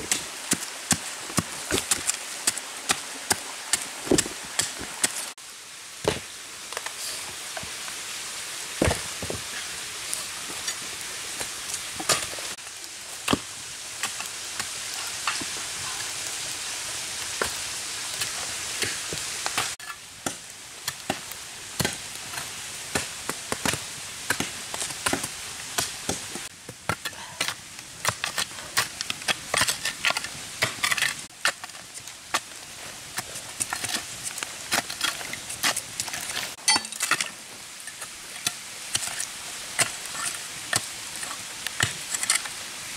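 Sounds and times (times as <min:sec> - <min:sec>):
wood fire crackling and popping: 0:00.0 - 0:05.3, 0:08.8 - 0:16.6, 0:17.2 - 0:42.9
steady hiss: 0:00.0 - 0:42.9.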